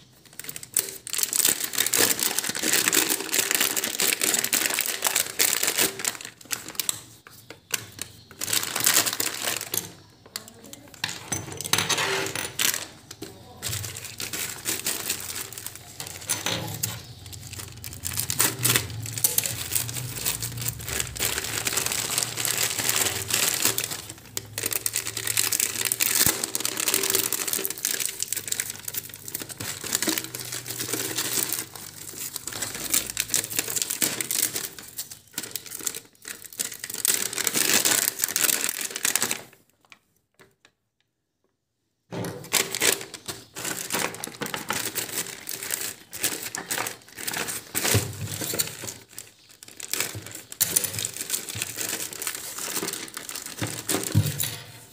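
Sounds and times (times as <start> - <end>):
plastic bags crinkling: 0.0 - 40.7, 42.1 - 54.9.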